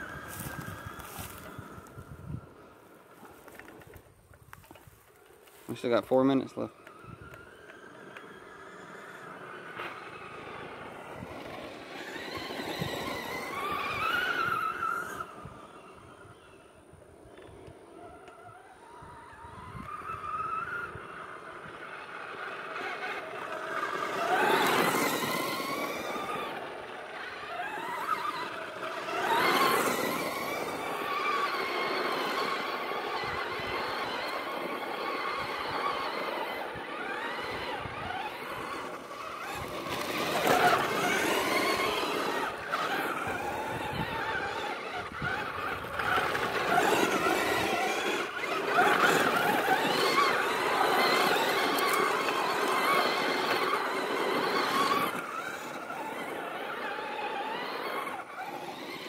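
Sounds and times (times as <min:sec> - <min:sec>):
rc car motor whine: 0:00.0 - 0:59.0.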